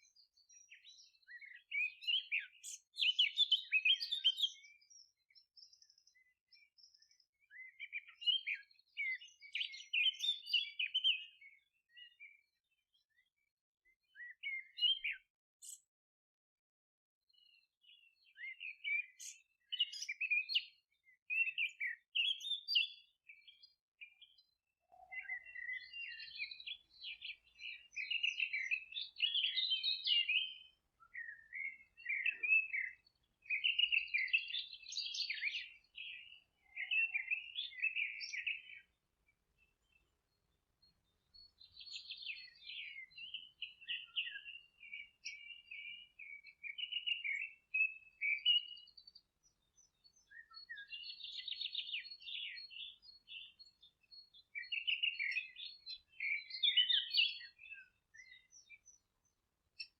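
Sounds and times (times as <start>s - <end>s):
songbirds chirping and trilling: 0.0s - 16.0s, 17.2s - 59.9s.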